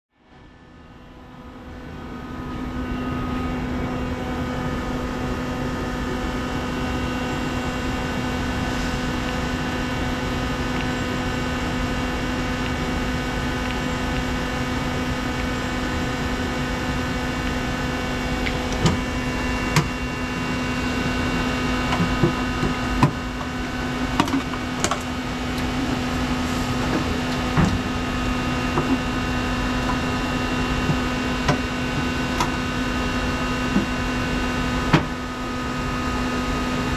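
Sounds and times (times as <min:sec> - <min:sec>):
electric machinery humming: 0:00.8 - 0:36.9.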